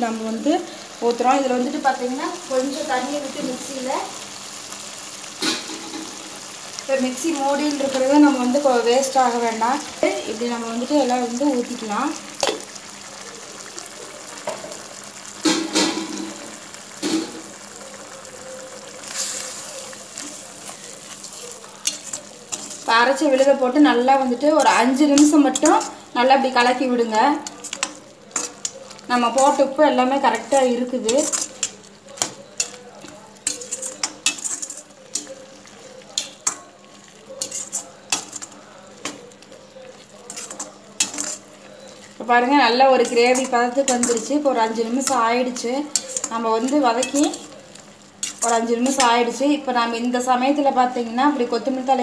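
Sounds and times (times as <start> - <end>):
gravy simmering hiss: 0.0 - 52.0.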